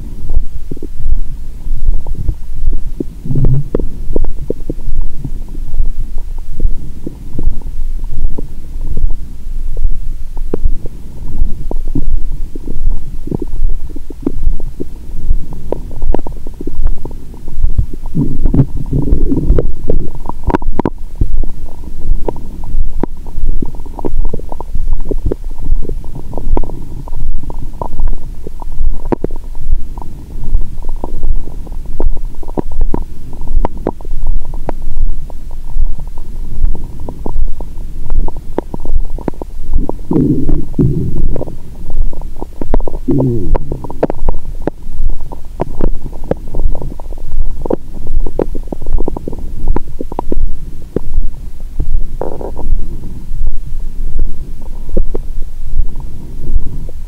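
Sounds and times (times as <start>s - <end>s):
stomach gurgling and rumbling: 0.0s - 57.0s.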